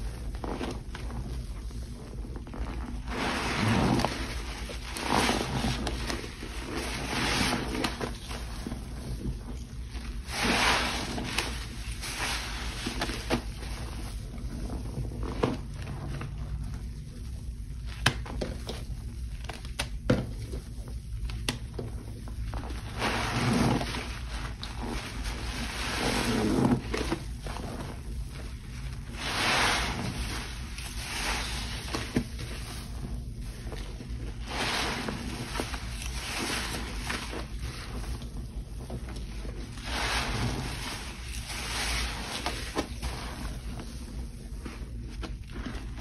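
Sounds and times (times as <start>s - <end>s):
soapy water sloshing: 0.3s - 16.7s, 22.3s - 46.0s.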